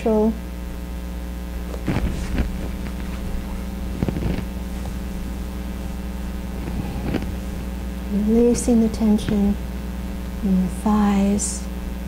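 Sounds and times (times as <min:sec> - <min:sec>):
low hum of room tone: 0:00.0 - 0:12.0.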